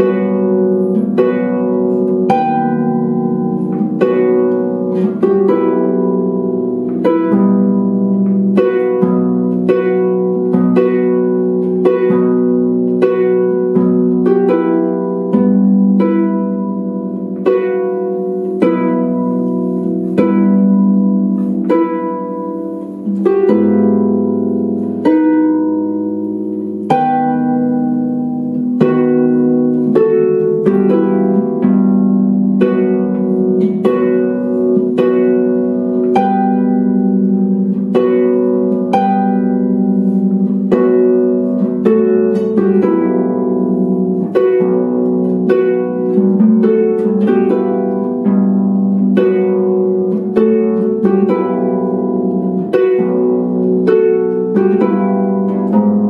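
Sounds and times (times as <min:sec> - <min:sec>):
harp playing slow piece: 0:00.0 - 0:56.0.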